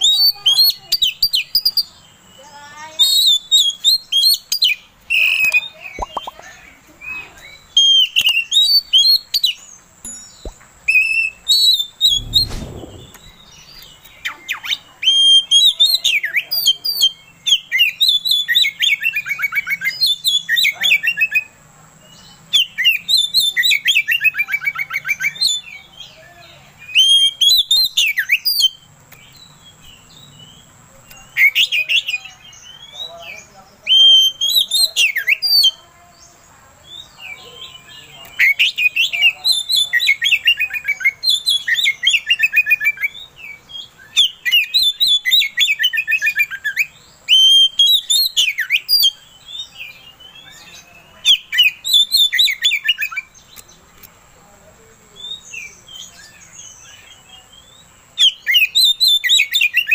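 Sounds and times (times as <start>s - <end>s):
bird singing whistles and trills: 0.0s - 2.0s, 2.8s - 21.6s, 22.5s - 26.2s, 26.8s - 33.2s, 33.8s - 35.8s, 36.9s - 53.6s, 55.2s - 59.9s.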